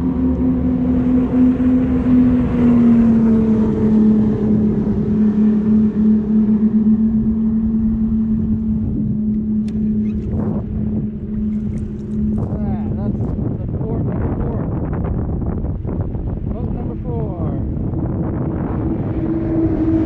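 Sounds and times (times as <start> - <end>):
motorboat engine droning: 0.0 - 20.0
wind and water rushing: 0.0 - 20.0.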